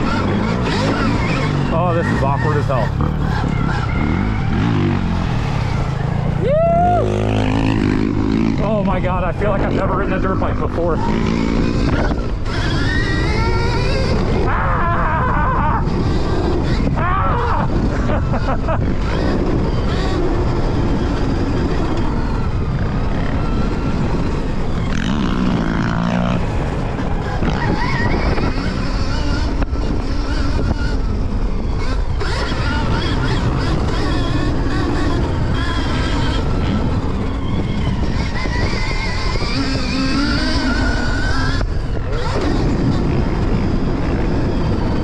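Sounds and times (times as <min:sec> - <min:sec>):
electric motorbike motor whining: 0:00.0 - 0:45.0
steady rush of noise: 0:00.0 - 0:45.0.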